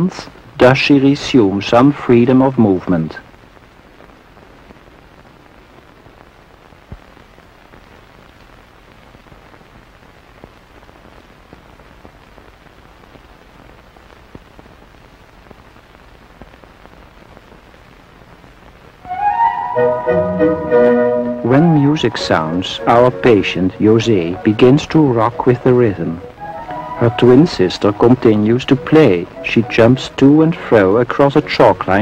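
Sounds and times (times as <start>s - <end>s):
film soundtrack hiss: 0.0s - 32.0s
gramophone record music: 0.0s - 32.0s.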